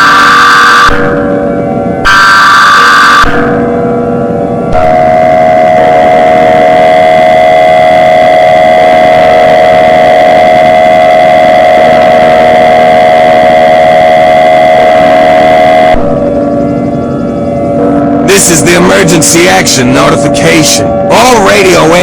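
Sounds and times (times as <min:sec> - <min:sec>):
steady electronic alert tone: 0:00.0 - 0:22.0.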